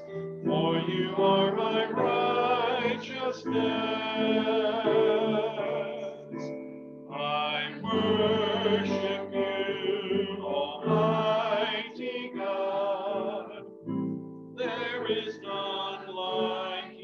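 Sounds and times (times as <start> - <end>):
voices singing held notes: 0.0 - 6.5, 7.1 - 14.0, 14.6 - 17.0
keyboard: 0.0 - 17.0.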